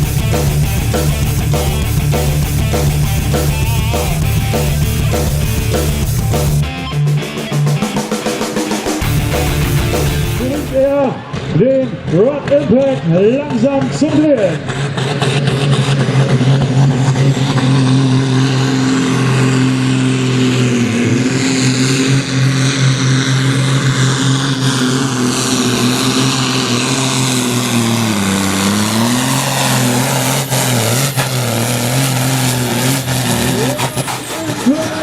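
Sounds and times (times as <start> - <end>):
high whine: 0.0 - 11.3, 15.5 - 35.0
tractor engine running loud: 0.0 - 35.0.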